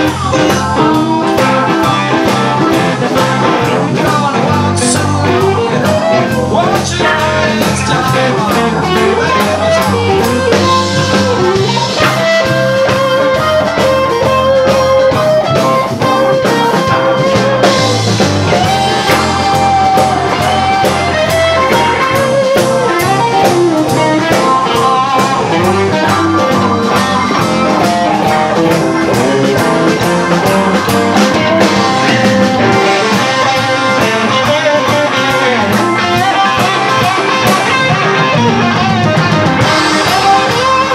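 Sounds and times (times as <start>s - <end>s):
bass guitar: 0.0s - 40.9s
drums: 0.0s - 40.9s
electric guitar lead: 0.0s - 40.9s.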